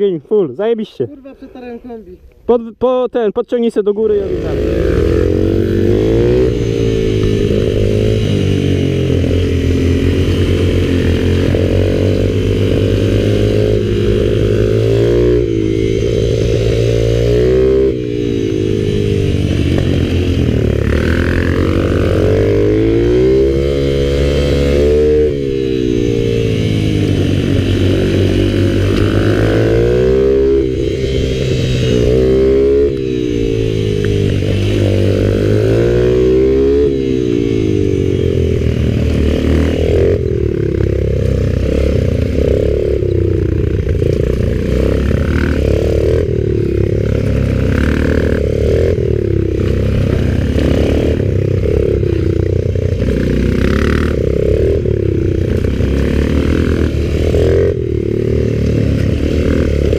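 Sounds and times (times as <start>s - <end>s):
minibike engine revving: 3.9s - 59.9s.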